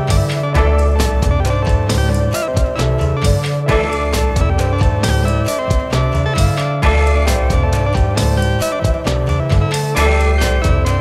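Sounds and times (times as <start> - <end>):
instrumental electronic music: 0.0 - 11.0.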